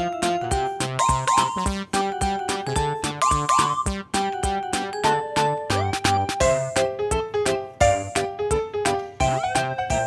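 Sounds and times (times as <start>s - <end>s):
upbeat synthesizer music: 0.0s - 8.2s.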